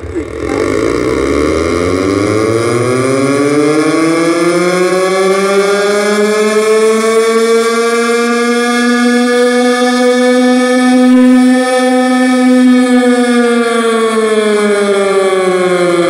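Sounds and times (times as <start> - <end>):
siren-like electronic tone: 0.0 - 16.0.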